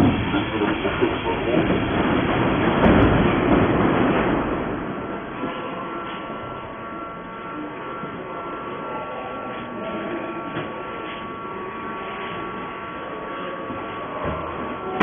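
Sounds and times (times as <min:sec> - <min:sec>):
constant tones: 0:00.0 - 0:15.0
metro train rumble and hiss: 0:00.0 - 0:15.0.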